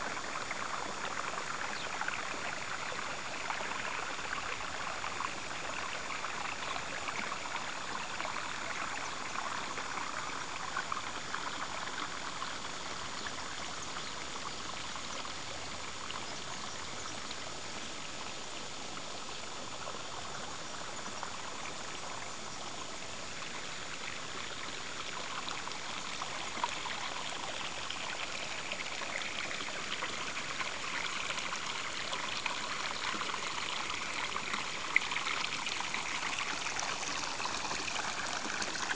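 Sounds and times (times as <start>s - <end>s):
running water rushing and trickling: 0.0s - 38.9s.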